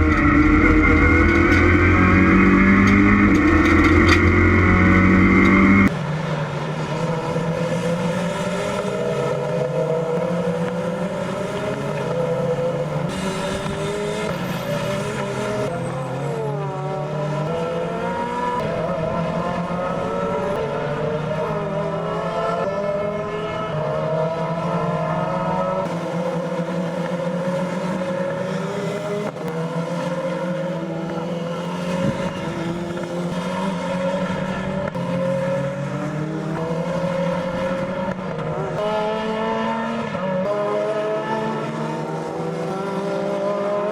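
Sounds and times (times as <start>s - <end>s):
race car engines: 0.0s - 43.9s.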